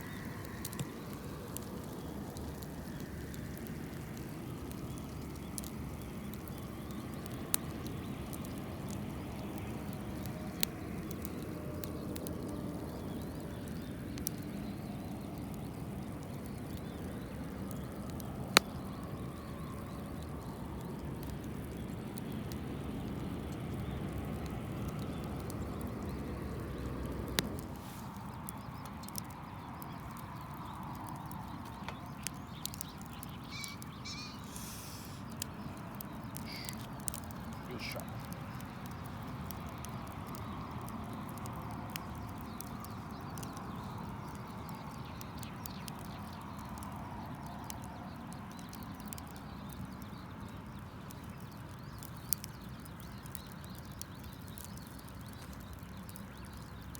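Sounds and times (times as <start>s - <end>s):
campfire burning with low rush: 0.0s - 56.9s
wood popping and crackling: 0.0s - 56.9s.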